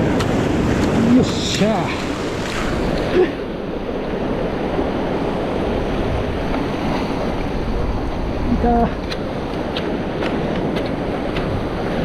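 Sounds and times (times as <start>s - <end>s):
sea surf washing against rocks: 0.0s - 12.0s.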